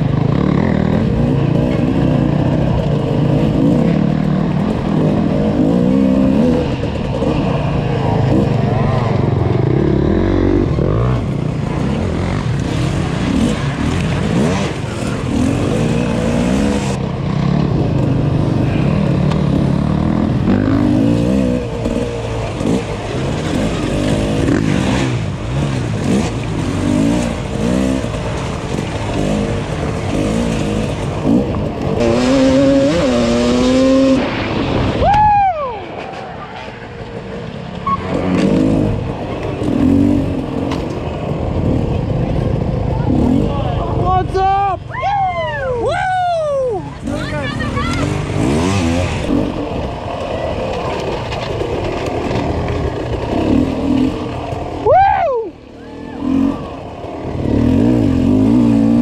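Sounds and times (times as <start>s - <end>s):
motorcycle engine revving: 0.0s - 35.1s, 35.8s - 44.2s, 46.8s - 59.0s.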